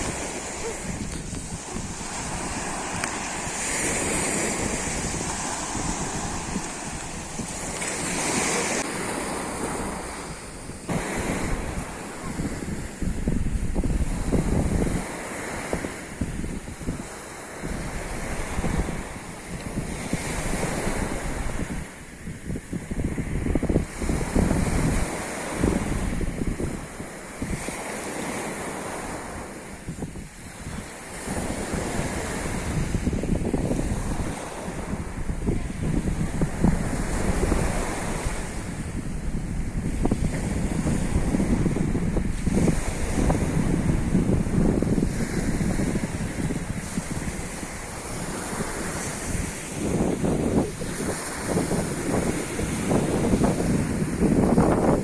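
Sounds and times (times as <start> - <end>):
sea waves washing onto beach: 0.0 - 55.0
wind buffeting microphone: 0.0 - 55.0.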